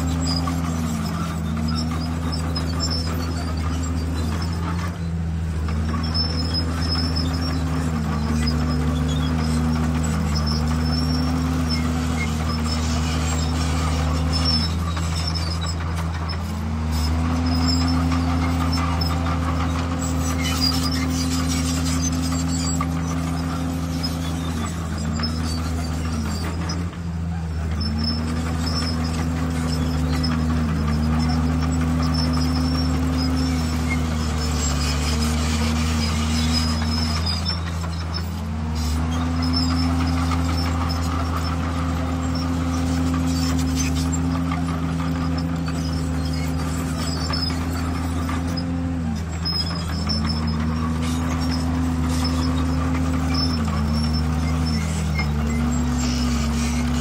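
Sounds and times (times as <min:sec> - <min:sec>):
bulldozer diesel engine running: 0:00.0 - 0:57.0
high-pitched squeaks: 0:00.0 - 0:57.0.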